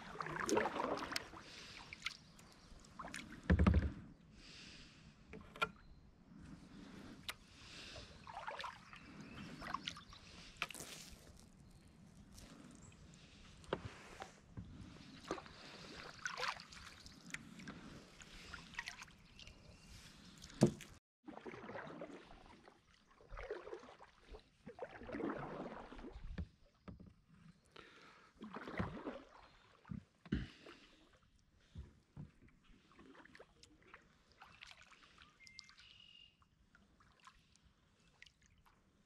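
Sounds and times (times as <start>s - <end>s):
paddle swishing through water: 0.0s - 39.0s.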